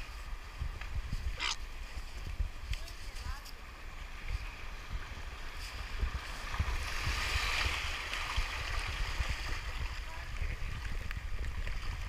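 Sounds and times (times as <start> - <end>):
surf washing up beach: 0.0 - 12.0.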